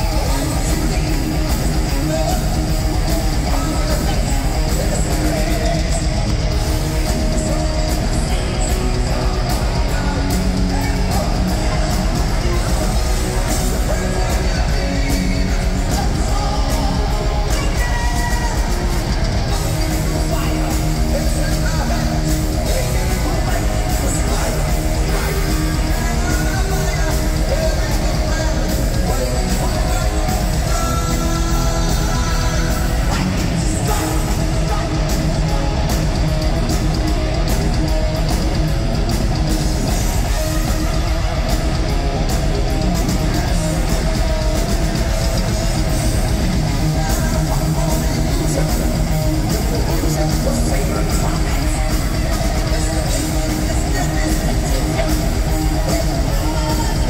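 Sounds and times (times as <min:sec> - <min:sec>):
distorted electric guitars: 0:00.0 - 0:57.0
fast pounding drums: 0:00.0 - 0:57.0
lead vocals: 0:00.0 - 0:57.0
live heavy metal band: 0:00.0 - 0:57.0.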